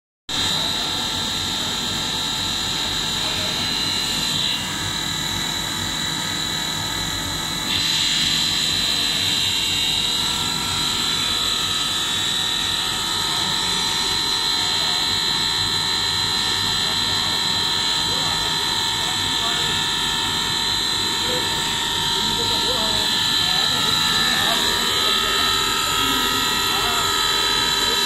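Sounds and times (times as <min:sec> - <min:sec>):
high machine whine: 0:00.3 - 0:28.0
machine hum and drone: 0:00.3 - 0:28.0.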